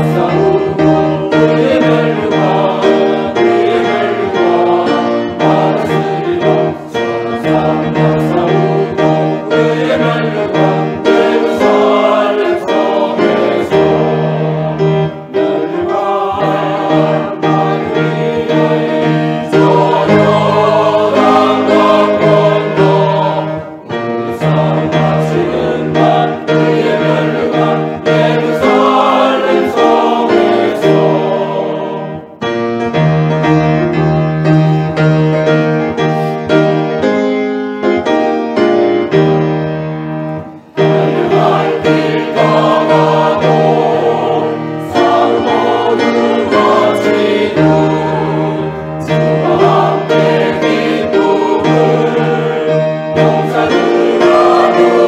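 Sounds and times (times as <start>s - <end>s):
choir singing a hymn: 0.0s - 32.4s, 40.4s - 55.0s
piano accompaniment: 0.0s - 55.0s.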